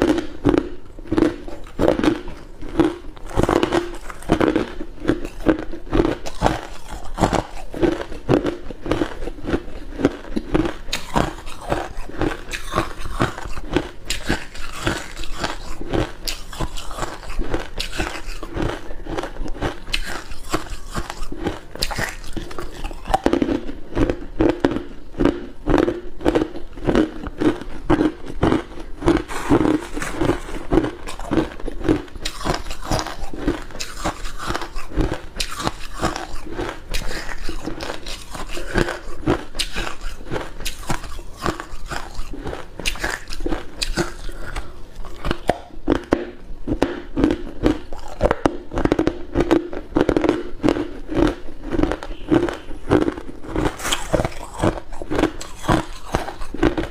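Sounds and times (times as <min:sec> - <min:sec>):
ice cubes being chewed: 0:00.0 - 0:56.9.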